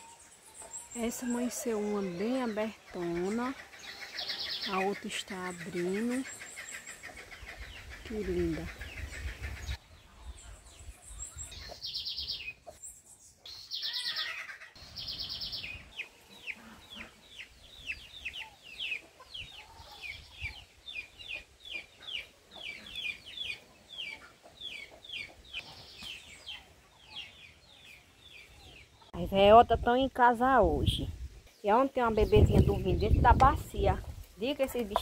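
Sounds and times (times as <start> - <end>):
chickens calling: 0.0 - 29.2.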